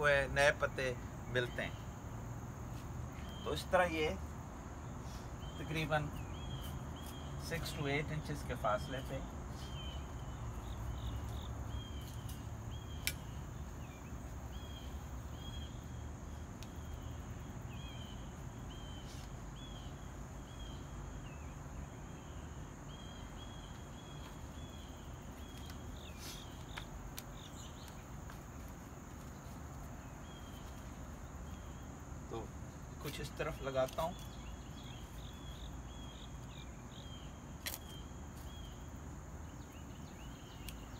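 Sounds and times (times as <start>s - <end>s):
insect chirp: 0.0s - 40.9s
insects buzzing: 0.0s - 40.9s.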